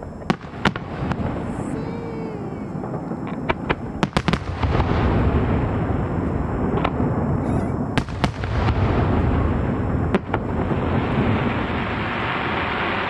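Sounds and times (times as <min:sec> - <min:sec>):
firework bangs: 0:00.0 - 0:13.0
rumble of firework bursts: 0:00.0 - 0:13.0.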